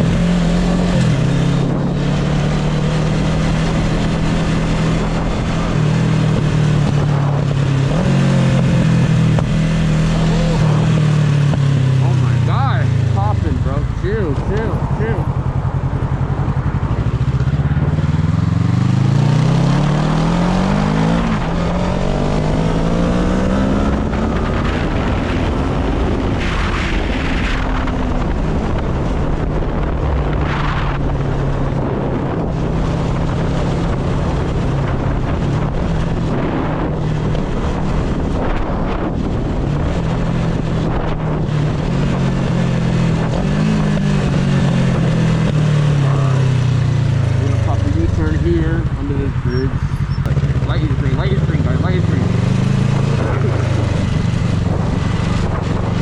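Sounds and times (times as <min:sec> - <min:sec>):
wind noise on microphone: 0:00.0 - 0:12.1, 0:12.9 - 0:56.0
motorcycle engine accelerating: 0:00.0 - 0:56.0.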